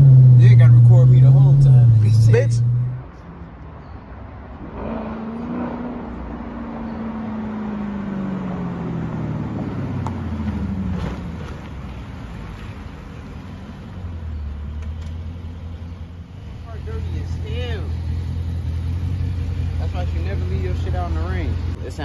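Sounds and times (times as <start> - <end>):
car engine exhaust rumble: 0.0 - 3.3, 4.8 - 21.9.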